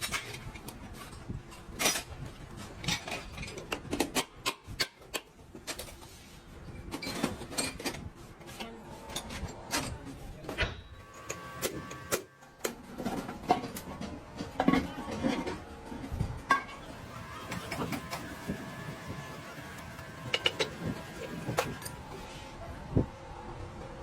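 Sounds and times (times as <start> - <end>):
tools and metal parts clattering: 0.0 - 6.1, 6.8 - 22.3.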